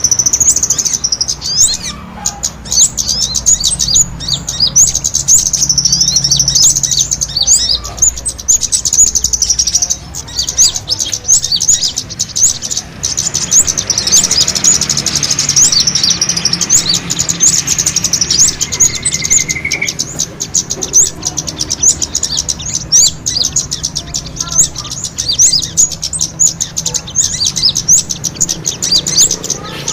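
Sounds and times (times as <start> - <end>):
low bird trill: 0.0 - 29.9
rapid high bird chirps: 0.0 - 29.9.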